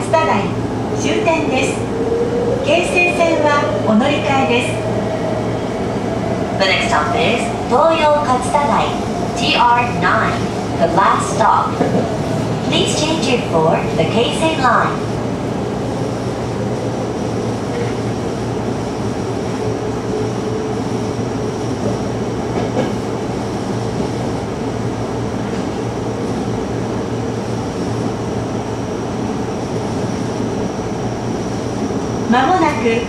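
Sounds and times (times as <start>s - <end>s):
electric train rumbling on track: 0.0s - 33.0s.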